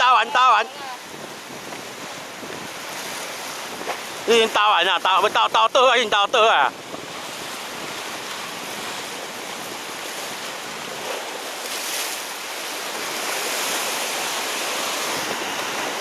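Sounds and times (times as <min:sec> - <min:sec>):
wind buffeting microphone: 0:00.0 - 0:04.6, 0:06.3 - 0:11.7, 0:12.8 - 0:16.0
sea surf washing: 0:00.0 - 0:16.0.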